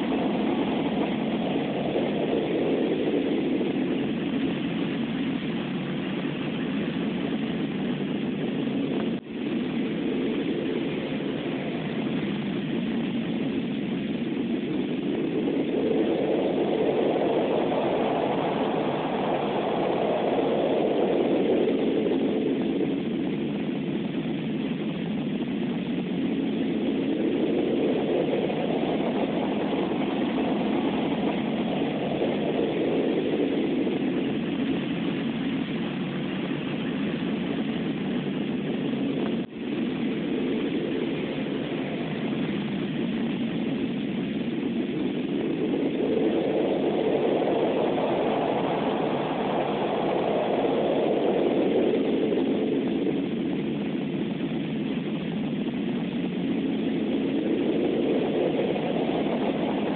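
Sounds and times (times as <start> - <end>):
rumbling blizzard wind: 0.0 - 59.9.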